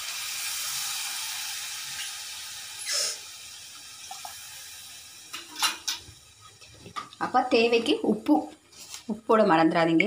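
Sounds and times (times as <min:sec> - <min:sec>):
food sizzling in a pan: 0:00.0 - 0:08.2.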